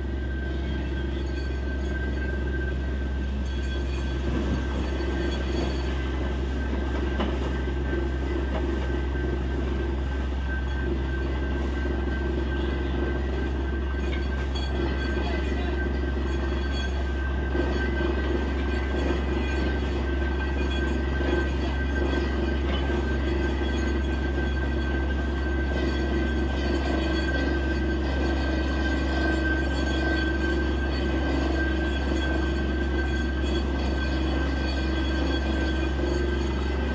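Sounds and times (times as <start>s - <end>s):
drilling rig engine droning: 0.0s - 36.9s
high whine: 0.0s - 36.9s.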